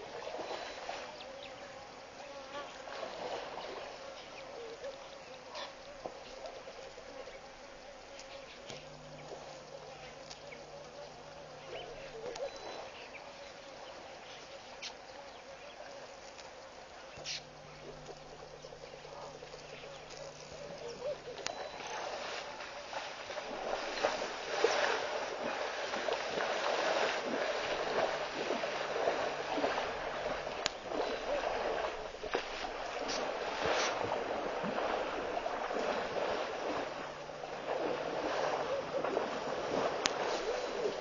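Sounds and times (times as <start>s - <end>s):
water splashing and sloshing: 0.0s - 41.0s.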